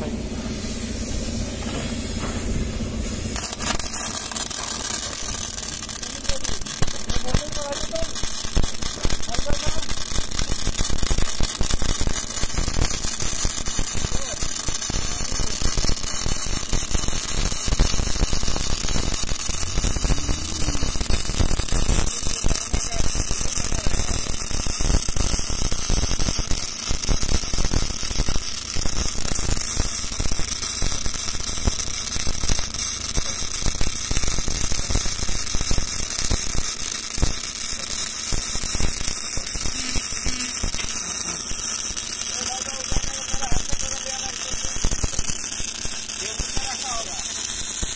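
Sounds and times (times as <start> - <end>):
welding arc crackling: 2.7 - 47.9.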